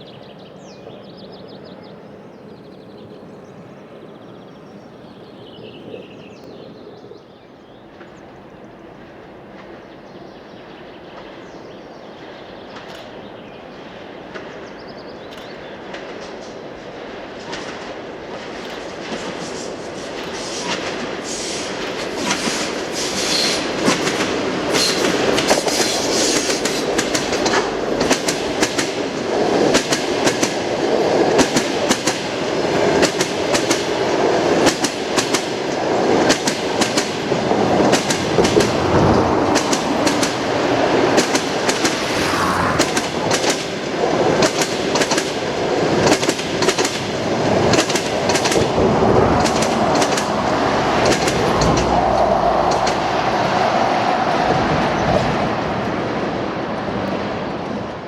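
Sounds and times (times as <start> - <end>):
train wheels clickety-clack: 7.9 - 42.1, 42.8 - 58.0.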